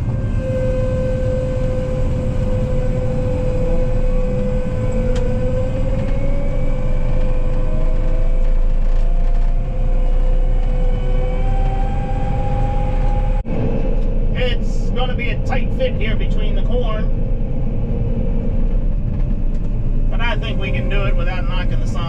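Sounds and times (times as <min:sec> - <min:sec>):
combine harvester engine drone: 0:00.0 - 0:22.0
whine rising in pitch: 0:00.0 - 0:22.0.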